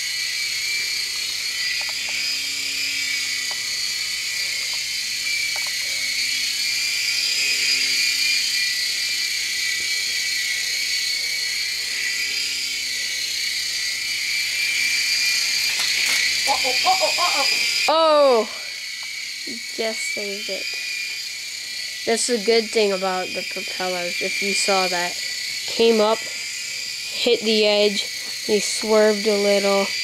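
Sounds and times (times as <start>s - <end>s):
toy helicopter high-pitched whine: 0.0s - 30.0s.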